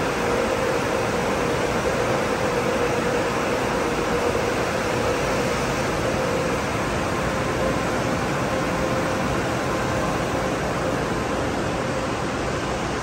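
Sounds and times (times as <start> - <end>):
car wash rushing noise: 0.0 - 13.0.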